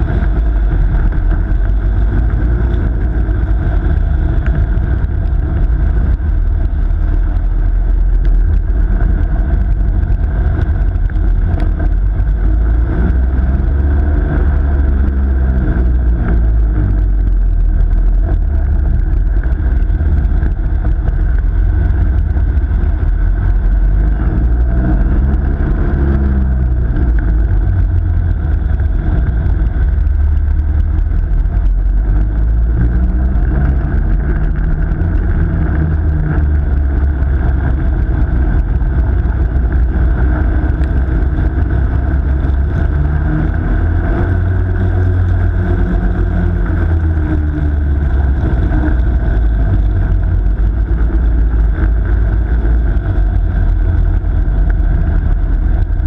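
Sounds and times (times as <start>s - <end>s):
kart engine rumbling: 0.0s - 56.0s.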